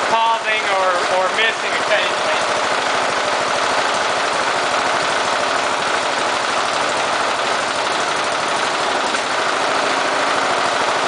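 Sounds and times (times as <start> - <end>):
engine idling and missing: 0.0 - 11.0.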